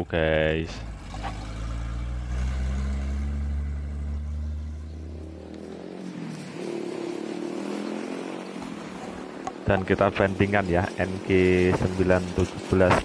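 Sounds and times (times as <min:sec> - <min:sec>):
diesel truck engine driving past: 0:00.0 - 0:13.0.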